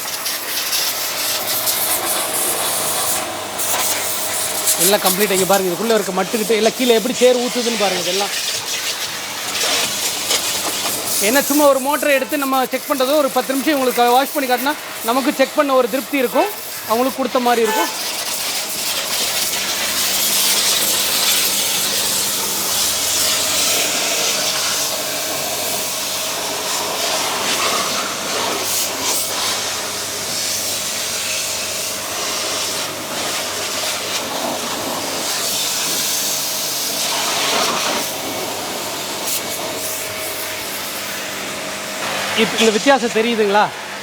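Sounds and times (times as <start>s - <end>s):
pressure washer motor humming: 0.0s - 44.0s
water jet hissing: 0.0s - 44.0s.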